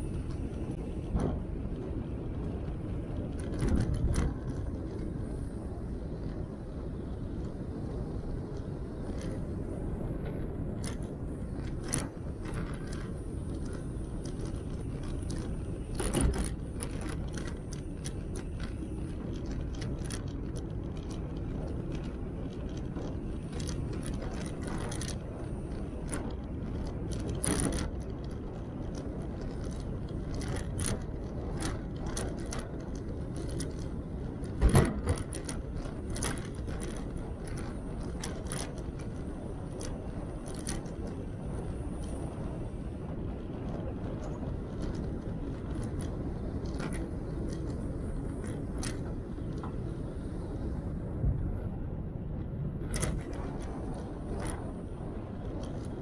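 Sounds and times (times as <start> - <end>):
small rattles and clicks: 0.0 - 56.0
tyres rumbling on bumpy path: 0.0 - 56.0.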